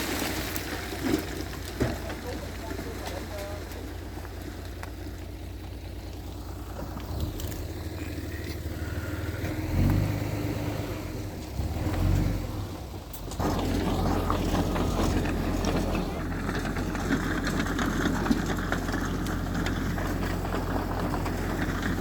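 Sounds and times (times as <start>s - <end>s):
heavy machinery engine rumble: 0.0s - 22.0s.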